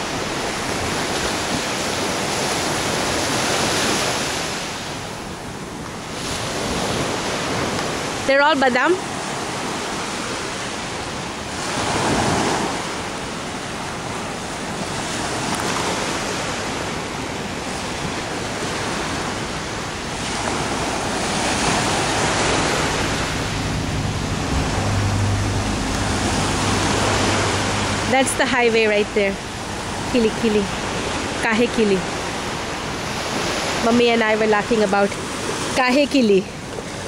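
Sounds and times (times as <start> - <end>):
wind rumble on microphone: 0.0 - 35.8
surf washing up beach: 0.0 - 37.0.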